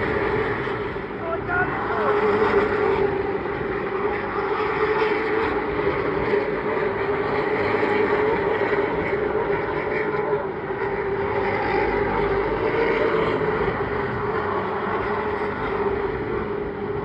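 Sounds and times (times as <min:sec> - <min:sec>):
stock cars racing: 0:00.0 - 0:17.0.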